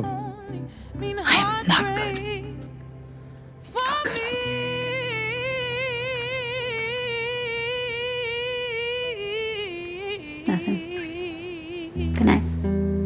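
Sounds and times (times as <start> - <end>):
person singing with vibrato: 0.0 - 2.8, 3.6 - 12.8
soft sustained low chord: 0.0 - 13.0.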